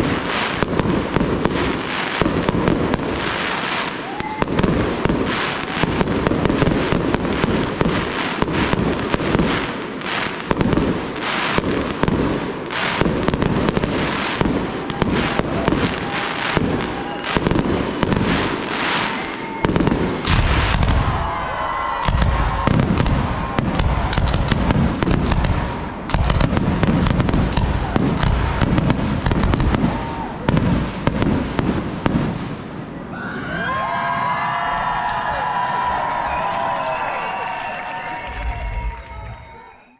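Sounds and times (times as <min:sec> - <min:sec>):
crackling firework sparks: 0:00.0 - 0:32.7
fireworks bursting: 0:00.0 - 0:33.1, 0:35.5 - 0:39.8.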